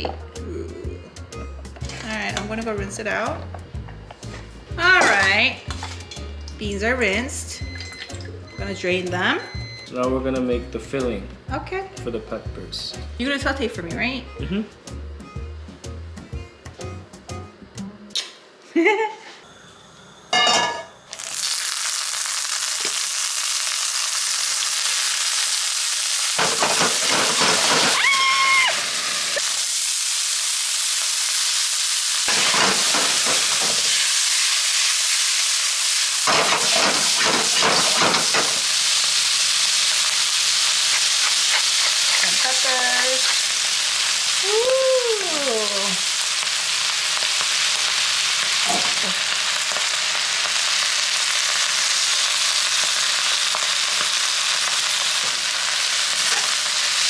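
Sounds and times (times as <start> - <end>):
food sizzling in a wok: 0.0 - 9.8, 10.4 - 16.0, 19.5 - 57.0.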